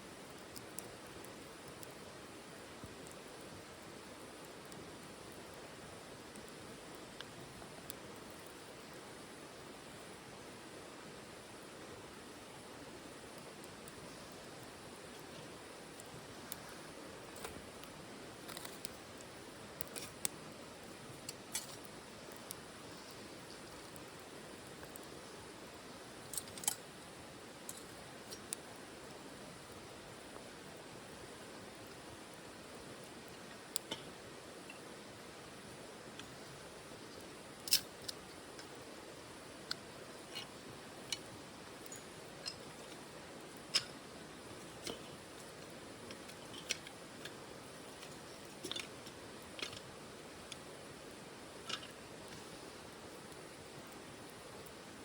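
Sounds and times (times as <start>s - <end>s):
soft hiss: 0.0s - 55.0s
wood fire crackling: 0.0s - 55.0s.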